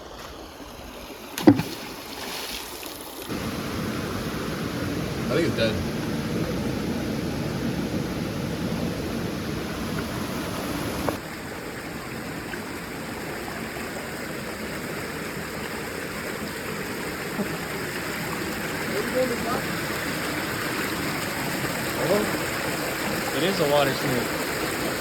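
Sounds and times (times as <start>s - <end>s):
stream and small waterfalls rushing: 0.0s - 25.0s.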